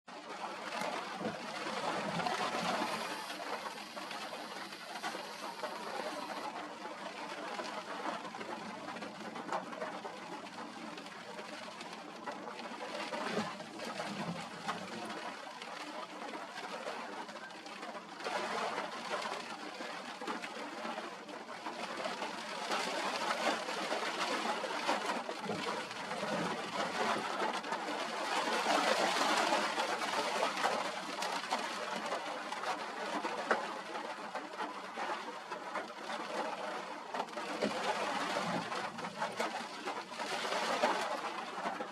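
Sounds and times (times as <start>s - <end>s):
rain: 0.1s - 41.9s
wind: 0.1s - 41.9s.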